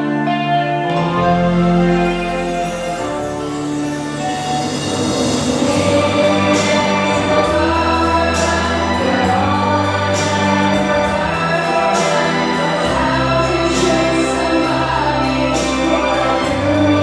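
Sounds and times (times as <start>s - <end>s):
choir singing with accompaniment: 0.0s - 17.0s.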